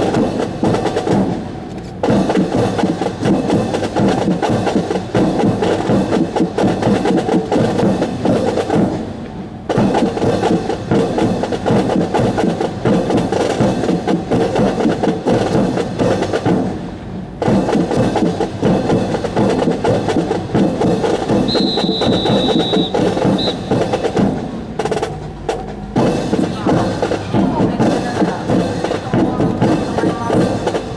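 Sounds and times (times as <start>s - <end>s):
fast snare drum cadence: 0.0s - 9.1s, 9.7s - 30.9s.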